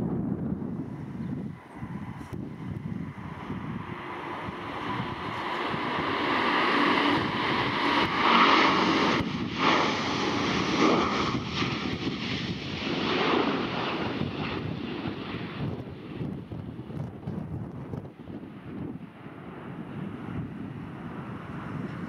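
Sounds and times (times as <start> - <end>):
airplane engines passing: 0.0 - 22.0.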